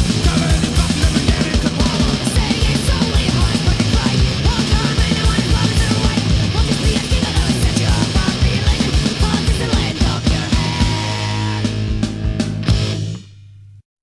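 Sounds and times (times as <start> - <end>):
fast kick drum beat: 0.0 - 12.9
punk rock song: 0.0 - 13.3.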